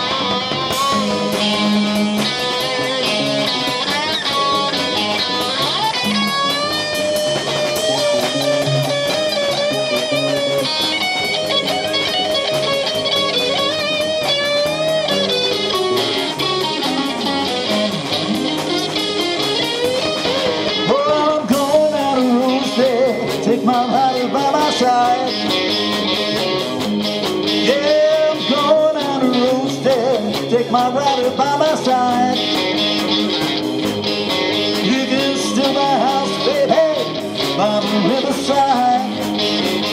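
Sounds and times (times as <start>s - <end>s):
blues-rock band playing: 0.0s - 39.9s
electric guitar bending notes: 0.0s - 39.9s.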